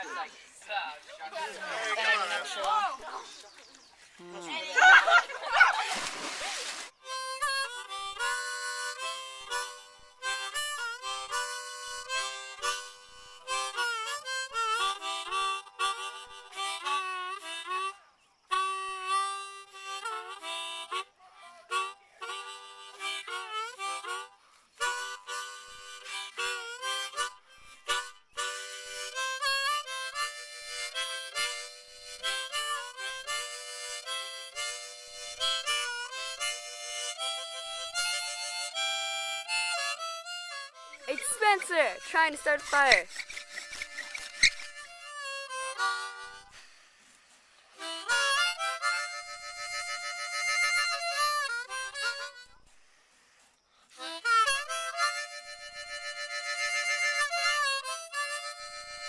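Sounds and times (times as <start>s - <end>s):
harmonica playing: 7.0s - 59.0s.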